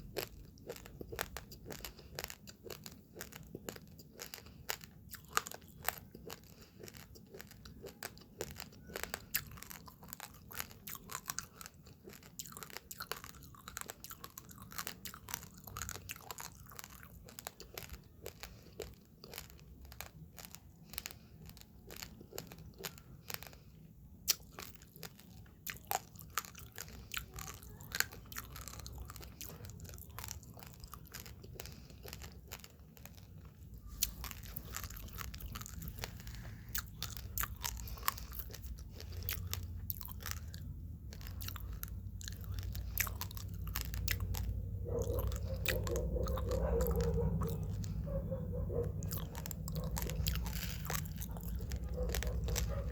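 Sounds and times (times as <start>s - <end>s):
raw rice crunched between teeth: 0.2s - 44.5s, 49.0s - 52.9s.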